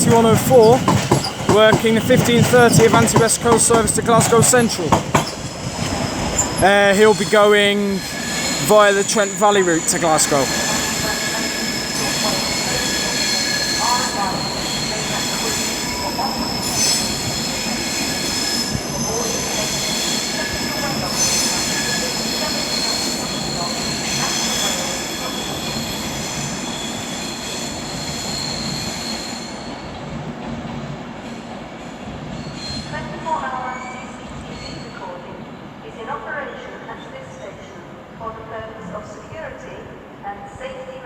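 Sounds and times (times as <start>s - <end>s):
train wheels squealing: 0.0s - 30.1s, 31.2s - 35.4s
rolling train rumble: 0.0s - 35.8s.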